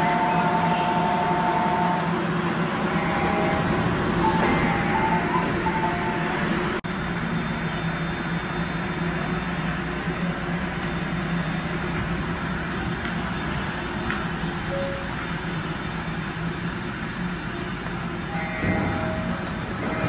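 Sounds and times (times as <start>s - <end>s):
electric train humming: 0.0s - 20.0s.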